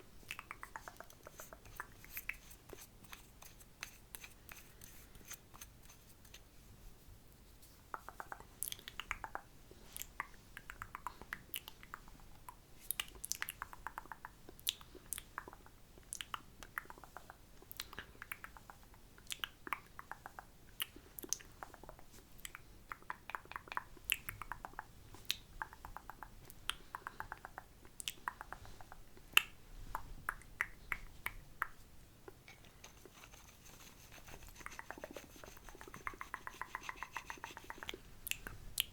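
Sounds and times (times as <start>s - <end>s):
tongue clicks and lip smacks: 0.2s - 3.3s, 7.9s - 33.0s, 34.3s - 38.9s.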